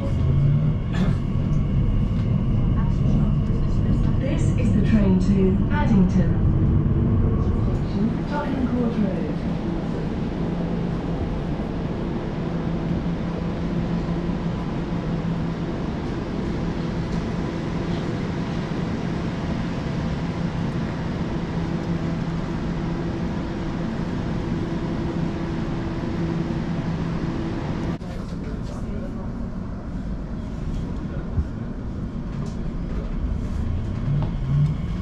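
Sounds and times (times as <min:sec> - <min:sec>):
steady low hum: 0:00.0 - 0:35.0
train running: 0:00.0 - 0:35.0.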